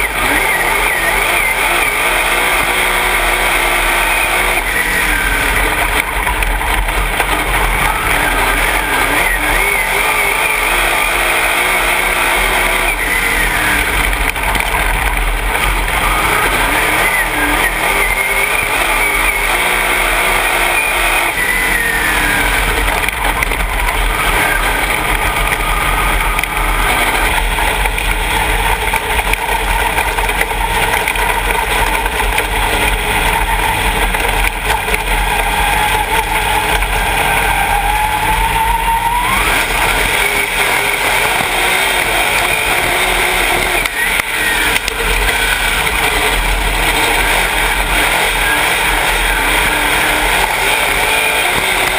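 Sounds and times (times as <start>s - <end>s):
race car engine revving: 0.0s - 51.9s.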